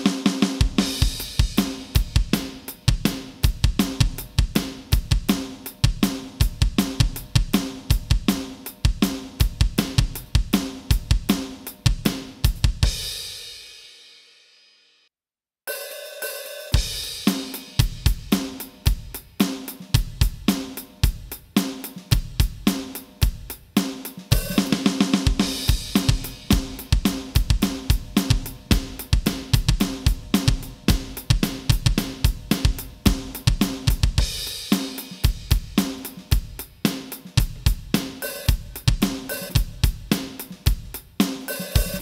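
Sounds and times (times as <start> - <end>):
electronic drum kit groove: 0.0 - 13.5, 15.7 - 42.0.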